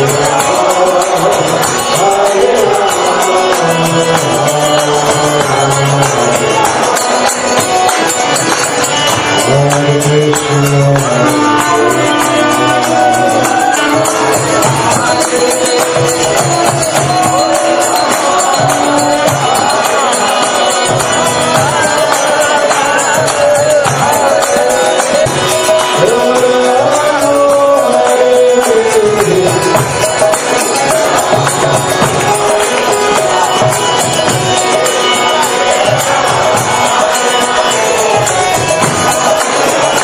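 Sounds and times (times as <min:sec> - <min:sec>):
group singing a chant: 0:00.0 - 0:40.0
jingling percussion: 0:00.0 - 0:40.0
steady drum beat: 0:00.0 - 0:40.0.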